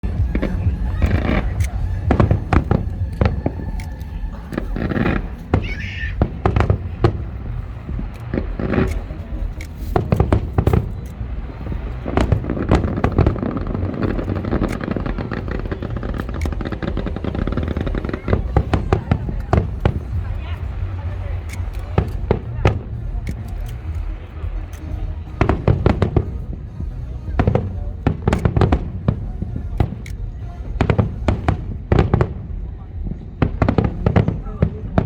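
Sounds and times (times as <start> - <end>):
fireworks bangs and cracks: 0.0 - 35.0
low rumble: 0.0 - 35.0.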